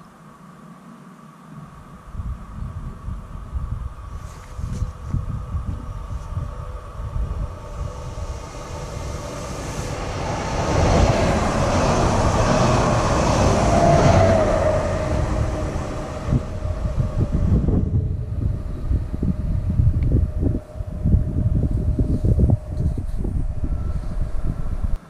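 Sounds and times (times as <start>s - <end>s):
train passing at speed: 1.5s - 25.0s.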